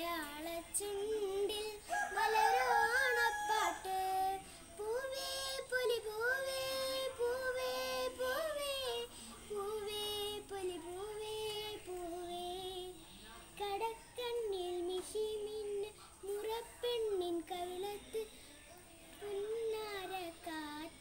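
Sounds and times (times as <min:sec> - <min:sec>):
girl singing unaccompanied: 0:00.0 - 0:21.0.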